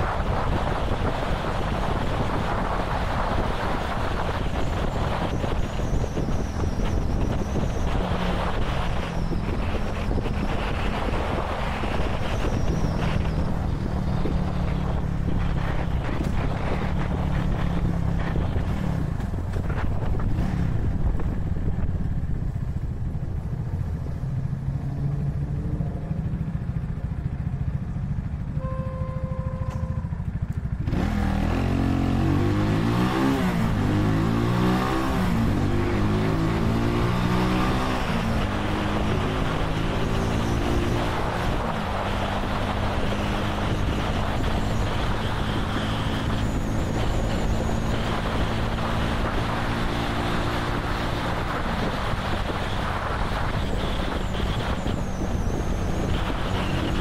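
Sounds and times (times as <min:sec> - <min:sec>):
motorcycle engine accelerating: 0:00.0 - 0:57.0
road rush: 0:00.0 - 0:57.0.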